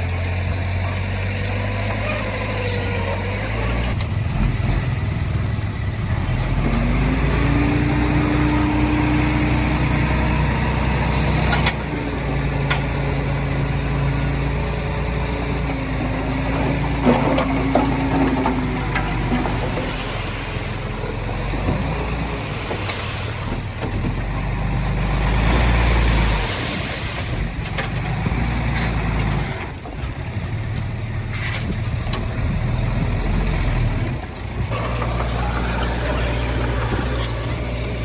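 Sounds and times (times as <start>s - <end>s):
heavy diesel machinery engines: 0.0s - 38.0s.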